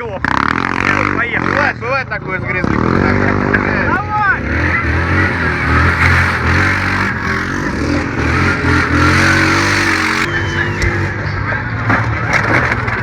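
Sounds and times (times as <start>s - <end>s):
quad bike engines revving: 0.0s - 13.0s.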